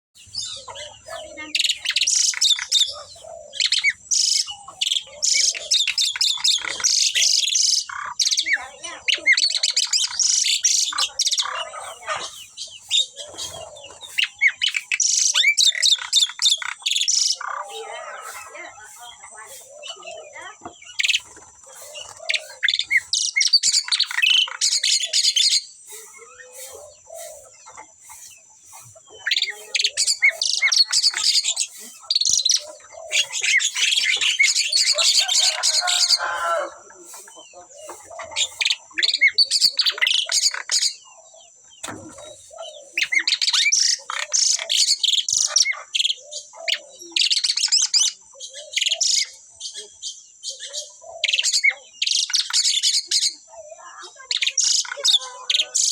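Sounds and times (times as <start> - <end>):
starlings singing: 0.2 - 55.9.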